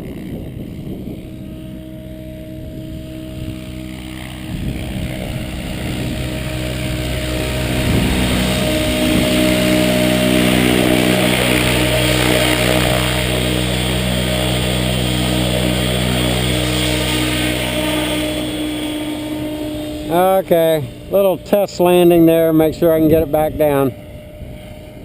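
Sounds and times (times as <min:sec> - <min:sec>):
model airplane motor and propeller: 0:00.0 - 0:25.0
wind noise: 0:00.0 - 0:25.0.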